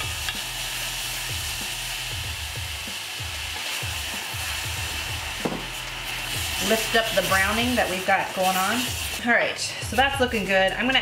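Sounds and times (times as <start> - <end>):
broth pouring: 0.0 - 9.2
onions sizzling in a saucepan: 0.0 - 11.0.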